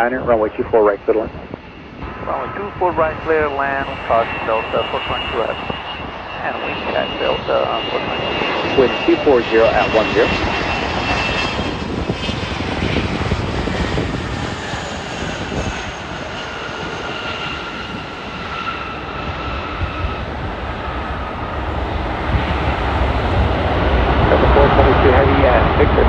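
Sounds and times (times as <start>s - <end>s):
jet engine rumble: 0.0s - 26.0s
jet whine sliding down: 0.0s - 26.0s.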